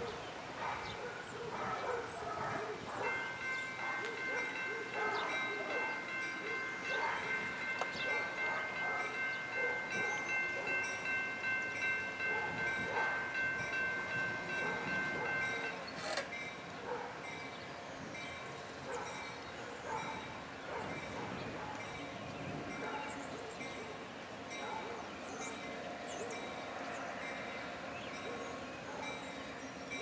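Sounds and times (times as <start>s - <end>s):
railroad crossing bell ringing: 1.6s - 30.0s.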